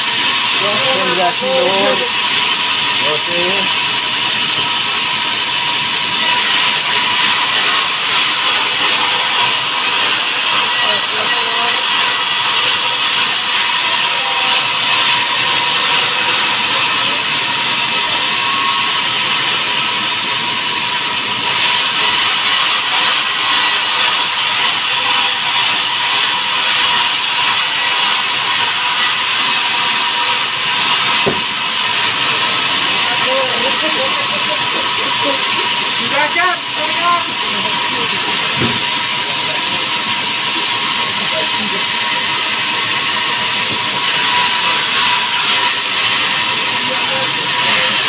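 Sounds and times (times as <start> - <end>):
steady whine of saw: 0.0 - 48.0
band saw blade cutting wood: 5.5 - 18.9, 21.4 - 39.8, 40.5 - 48.0.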